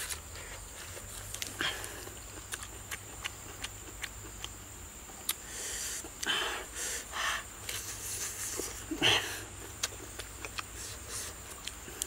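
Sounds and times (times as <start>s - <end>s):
person chewing and lip smacking: 0.0s - 4.6s, 5.2s - 6.3s, 7.6s - 12.0s.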